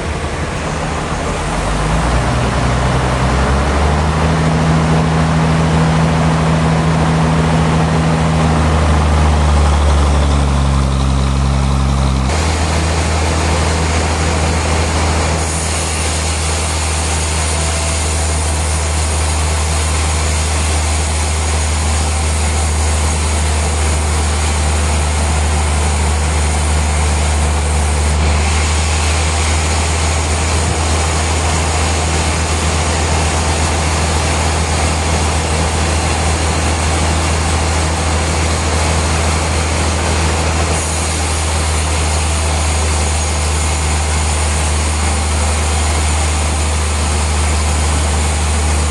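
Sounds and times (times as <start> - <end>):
sawmill machinery droning: 0.0 - 48.9.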